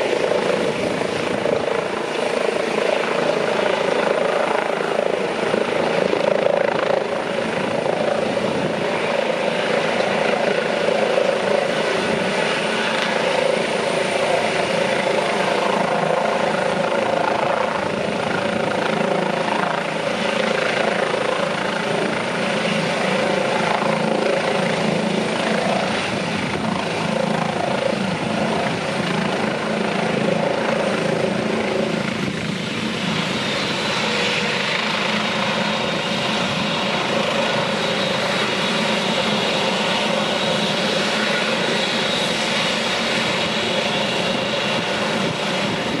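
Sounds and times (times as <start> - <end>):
helicopter rotor and turbine: 0.0 - 46.0
high turbine whine: 0.0 - 46.0.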